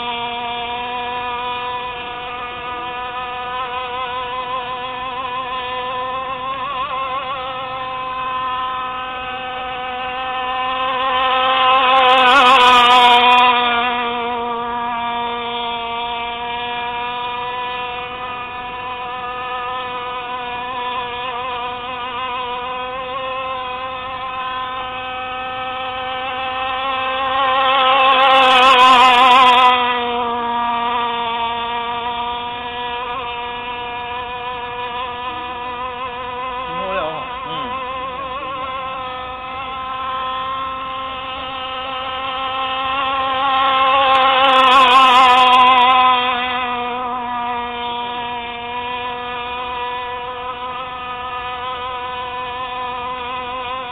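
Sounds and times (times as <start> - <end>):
two-stroke boat engine at high revs: 0.0 - 53.9.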